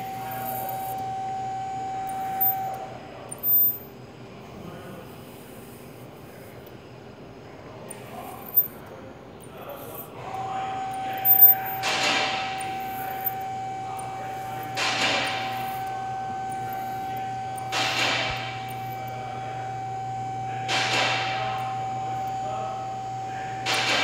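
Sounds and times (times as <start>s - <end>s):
low equipment hum: 0.0s - 24.0s
steady equipment tone: 0.0s - 24.0s.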